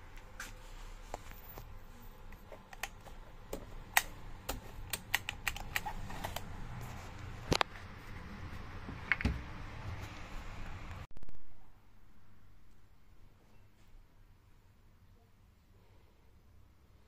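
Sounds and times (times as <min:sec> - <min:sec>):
faint low background noise: 0:00.0 - 0:17.0.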